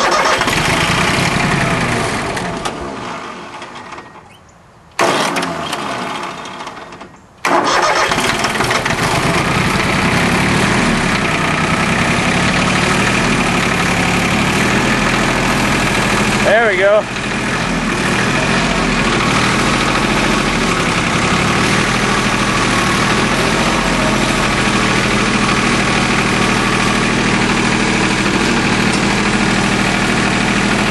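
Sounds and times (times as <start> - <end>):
diesel tractor engine starting: 0.0 - 4.4, 5.0 - 30.9.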